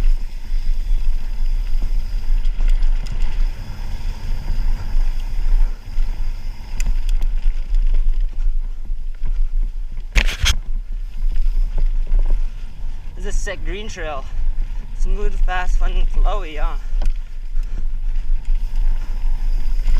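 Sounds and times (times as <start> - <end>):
bike tyres rumbling over rocks: 0.0 - 19.9
wind buffeting microphone: 0.0 - 19.9.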